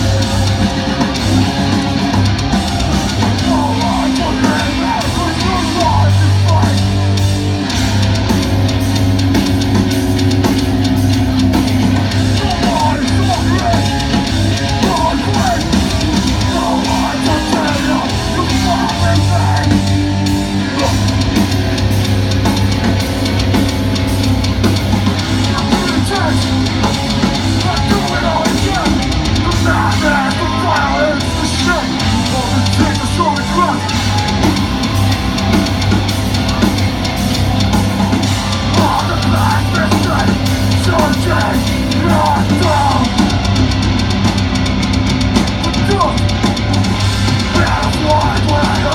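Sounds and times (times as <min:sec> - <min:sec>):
distorted electric guitars: 0:00.0 - 0:48.9
drum kit: 0:00.0 - 0:48.9.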